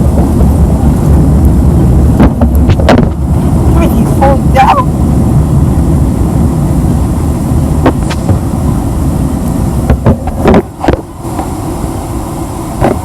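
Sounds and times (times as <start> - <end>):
vehicle rumbling in motion: 0.0 - 13.0.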